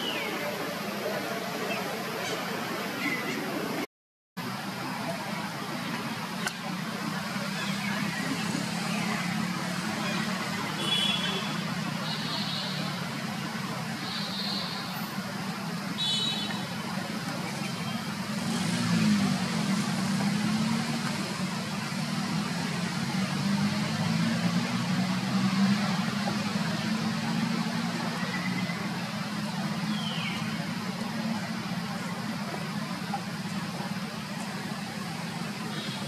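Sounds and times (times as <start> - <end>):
traffic rumble: 0.0 - 36.0.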